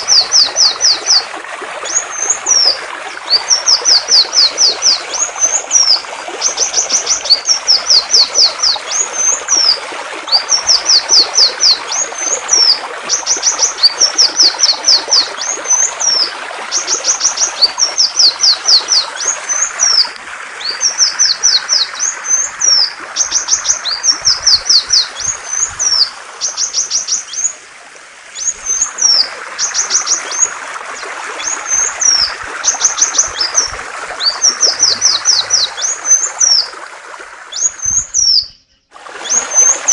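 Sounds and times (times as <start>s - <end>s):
songbird singing: 0.0s - 27.6s, 28.3s - 36.7s, 37.5s - 39.9s
flowing water rushing: 0.0s - 39.9s.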